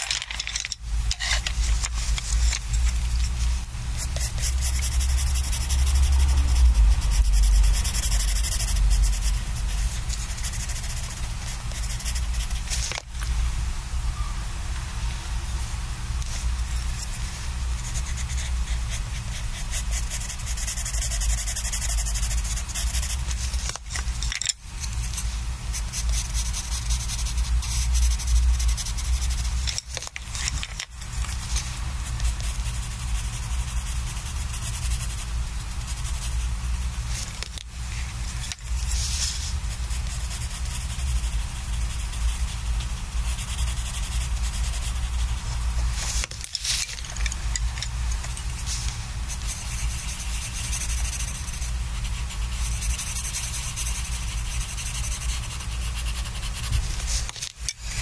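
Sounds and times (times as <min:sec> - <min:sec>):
low steady hum: 0:00.0 - 0:58.0
pencil shading on paper: 0:01.2 - 0:12.9, 0:16.2 - 0:24.2, 0:24.8 - 0:37.6, 0:38.3 - 0:46.4, 0:48.2 - 0:57.4.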